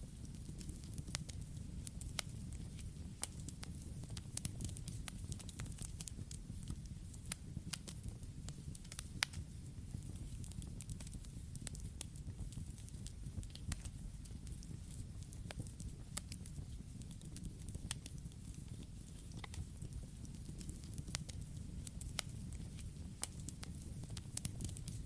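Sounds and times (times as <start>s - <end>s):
low rumble of flames: 0.0s - 25.0s
wood crackling and popping: 0.0s - 25.0s.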